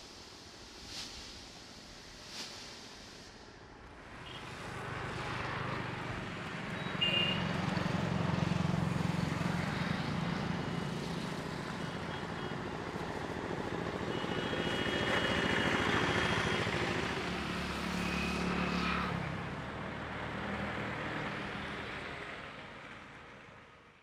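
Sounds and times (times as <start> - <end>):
traffic rumble: 3.4 - 23.7.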